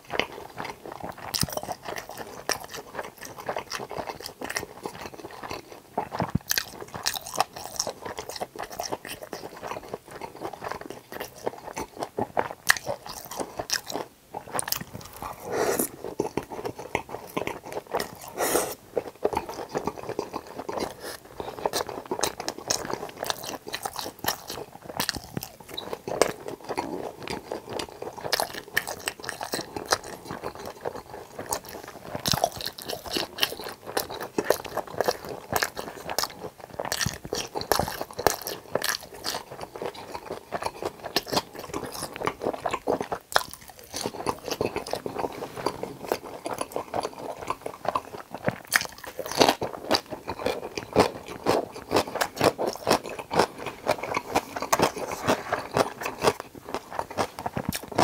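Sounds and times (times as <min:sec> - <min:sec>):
crunching and chewing fried pork: 0:00.0 - 0:58.0.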